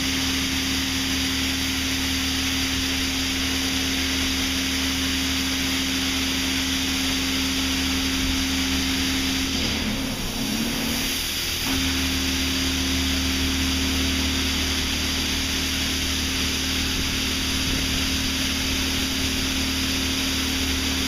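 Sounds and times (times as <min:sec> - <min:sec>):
high-pressure water jets spraying: 0:00.0 - 0:21.0
machine hum: 0:00.0 - 0:21.0.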